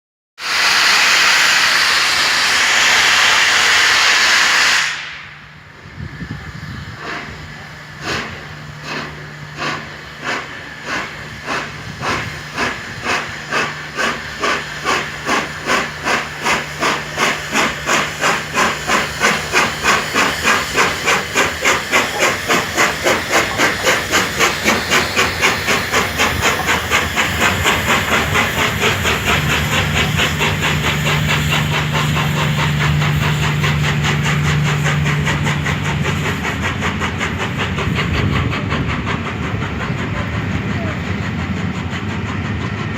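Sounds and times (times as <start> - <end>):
steam locomotive chuffing: 0.4 - 42.9.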